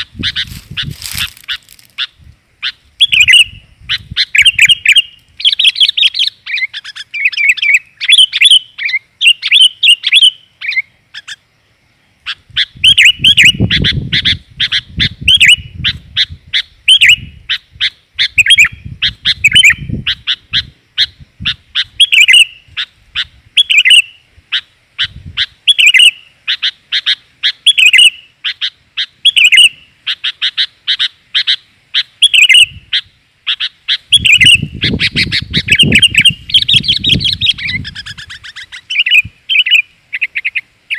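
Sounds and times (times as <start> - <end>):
bird chirping rapidly: 0.0 - 40.9.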